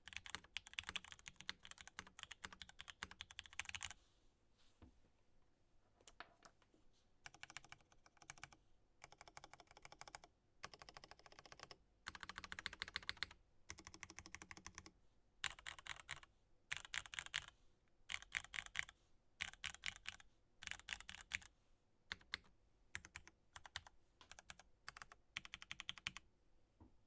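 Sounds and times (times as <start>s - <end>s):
mechanical keyboard typing: 0.0s - 3.9s, 7.3s - 17.5s, 18.1s - 21.5s, 22.1s - 26.2s.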